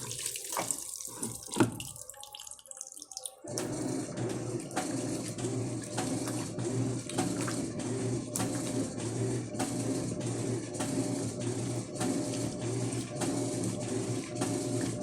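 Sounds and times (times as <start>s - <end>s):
water running into washing machine: 0.0s - 15.0s.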